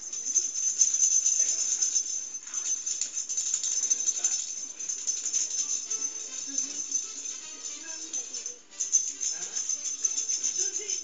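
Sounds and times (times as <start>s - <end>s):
light rattling and jingling: 0.0s - 11.0s.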